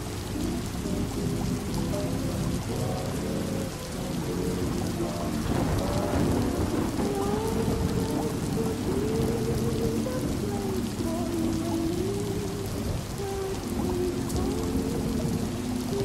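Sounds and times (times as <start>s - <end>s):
muffled wavering pitched sounds: 0.0s - 16.0s
rain against windows: 0.0s - 16.0s
low rumble of thunder: 0.1s - 16.0s.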